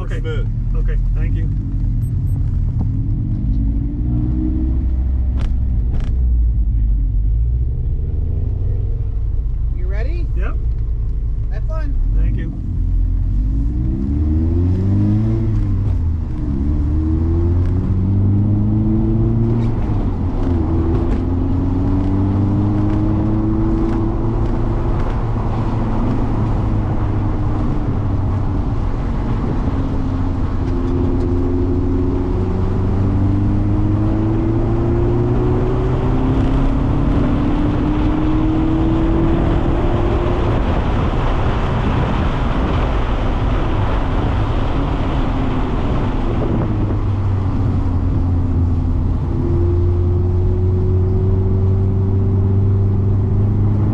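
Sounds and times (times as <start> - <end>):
car engine revving through gears: 0.0 - 11.4, 12.0 - 53.9.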